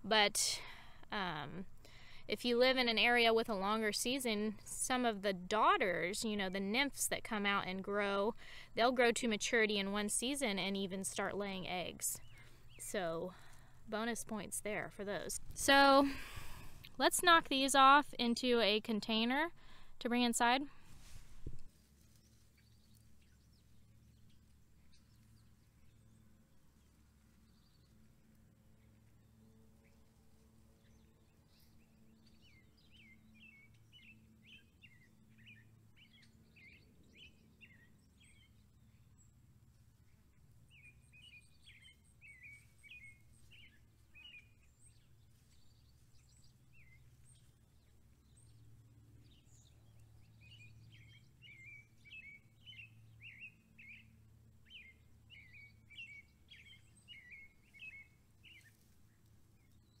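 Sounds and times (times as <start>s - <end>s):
faint low hum: 0.0s - 60.0s
songbird chirping: 0.2s - 60.0s.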